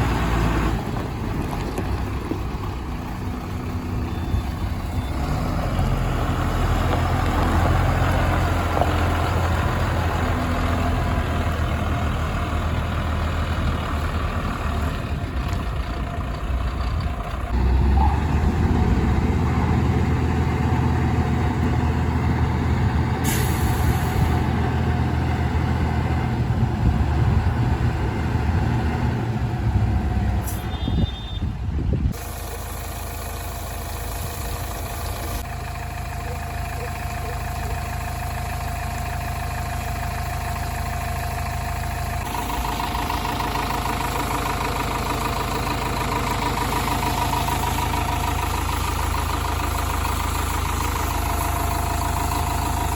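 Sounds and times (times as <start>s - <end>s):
diesel engine working under load: 0.0s - 52.9s.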